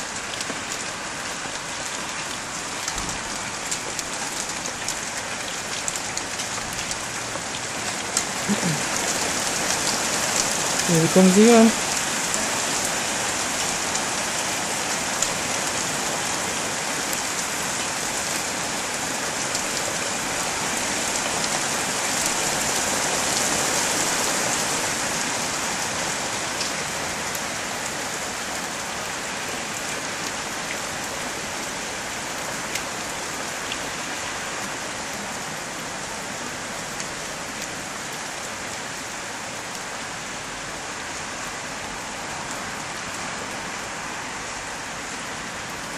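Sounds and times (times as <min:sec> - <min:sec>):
rain falling: 0:00.0 - 0:45.9
ticks of raindrops: 0:00.0 - 0:45.9.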